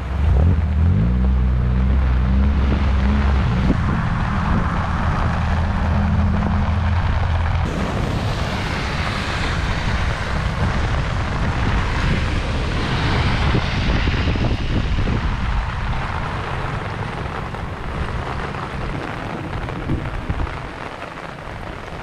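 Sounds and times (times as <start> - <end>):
heavy rain: 0.0 - 22.0
rushing floodwater: 0.0 - 22.0
wind buffeting microphone: 0.0 - 22.0.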